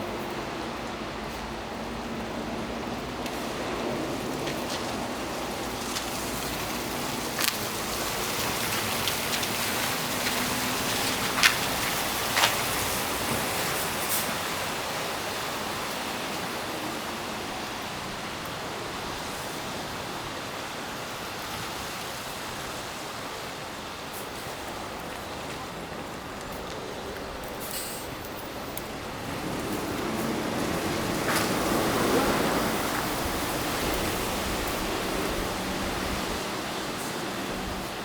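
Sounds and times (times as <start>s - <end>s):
city street ambience hiss: 0.0s - 38.0s.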